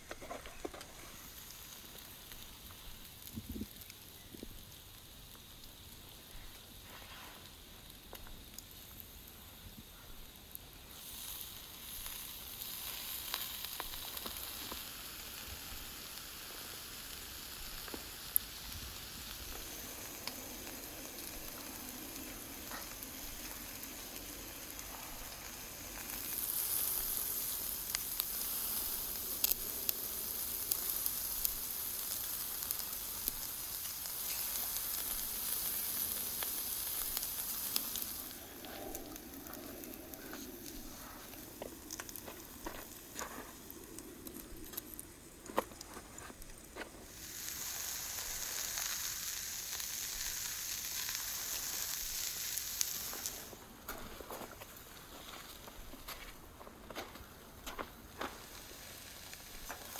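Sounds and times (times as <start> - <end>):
food sizzling: 0.0 - 55.9, 57.6 - 59.9.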